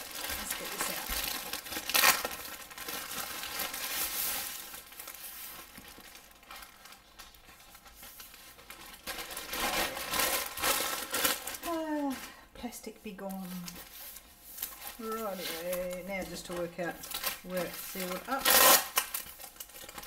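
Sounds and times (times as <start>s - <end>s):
plastic packaging crinkling: 0.0s - 12.5s, 13.1s - 20.0s.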